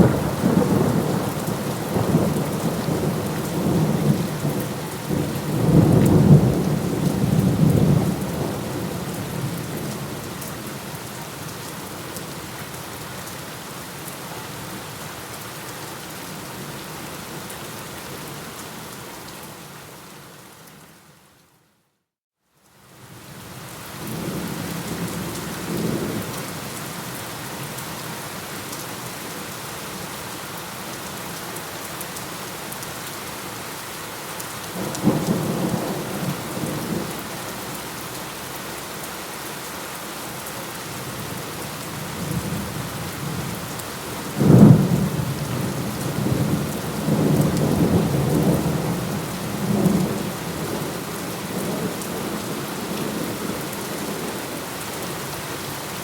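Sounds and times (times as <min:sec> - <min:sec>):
steady rain falling: 0:00.0 - 0:21.6, 0:22.5 - 0:56.0.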